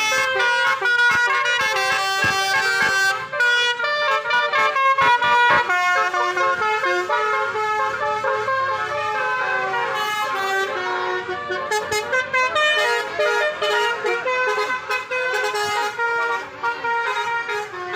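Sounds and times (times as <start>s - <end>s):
multi-tone musical bus horn: 0.0s - 17.9s.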